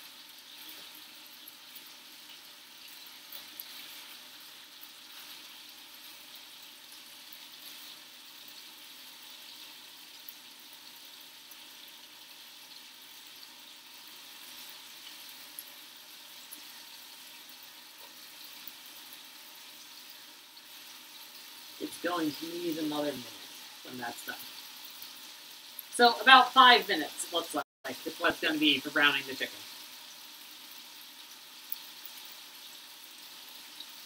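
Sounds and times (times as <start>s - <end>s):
chicken sizzling in frying pan: 0.0s - 34.0s.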